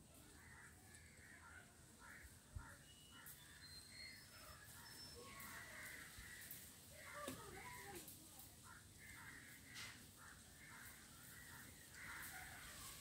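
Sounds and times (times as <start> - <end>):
birds calling faintly: 0.0 - 13.0.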